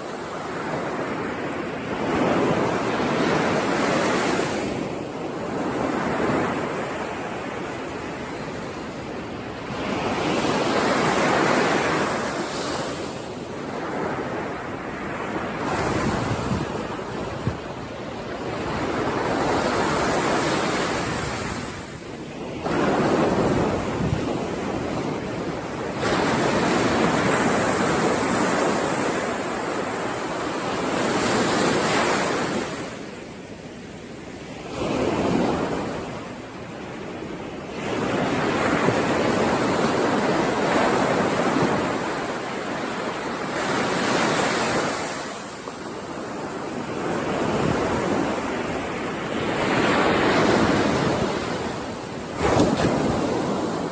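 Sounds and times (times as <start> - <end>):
sea waves breaking on shore: 0.0 - 53.9.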